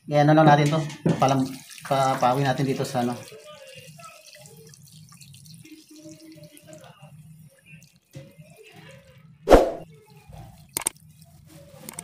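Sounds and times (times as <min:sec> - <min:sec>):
water stream splashing into pot: 0:01.0 - 0:12.0.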